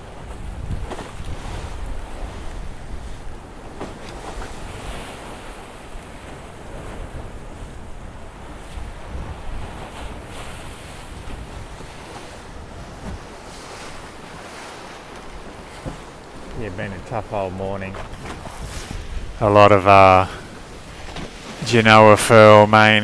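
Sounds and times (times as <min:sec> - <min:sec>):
wind buffeting microphone: 0:00.0 - 0:21.7
sea water rushing past hull: 0:00.0 - 0:23.0.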